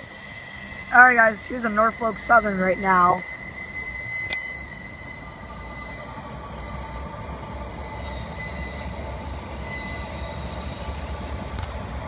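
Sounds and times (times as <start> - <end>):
high wheel squeal: 0.0 - 12.0
train wheels rumbling on rail: 0.0 - 12.0.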